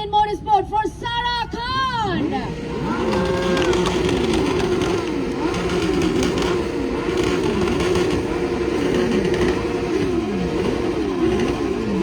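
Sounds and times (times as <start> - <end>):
motorcycle engines revving: 2.0 - 12.0.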